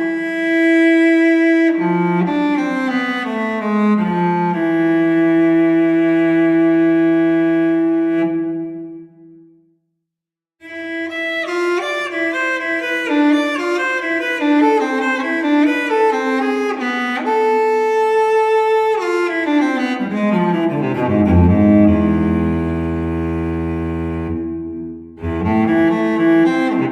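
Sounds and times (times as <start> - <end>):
bowed string melody: 0.0 - 9.4, 10.6 - 26.9.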